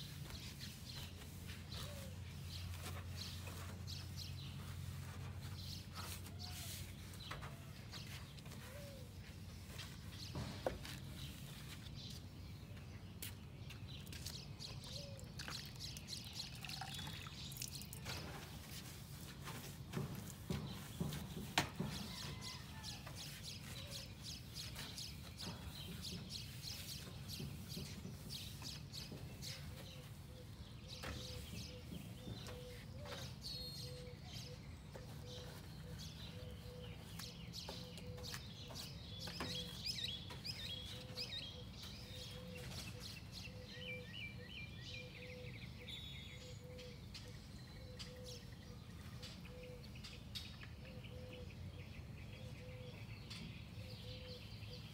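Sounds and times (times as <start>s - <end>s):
birds chirping: 0.1s - 54.9s.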